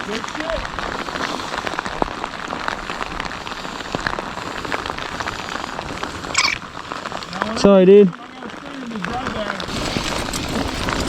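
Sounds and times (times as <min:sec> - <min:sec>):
rain falling: 0:00.0 - 0:11.0
raindrops hitting close by: 0:00.0 - 0:11.0.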